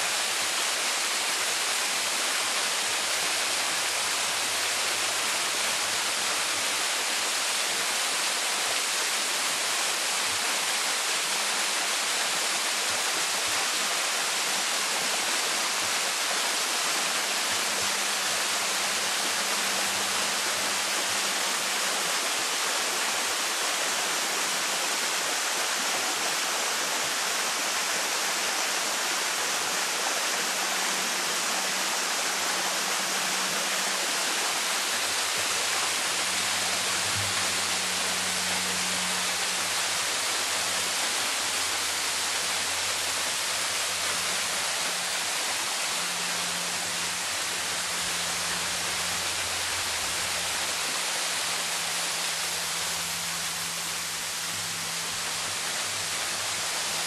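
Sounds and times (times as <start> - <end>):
waterfall splashing onto rocks: 0.0 - 57.0.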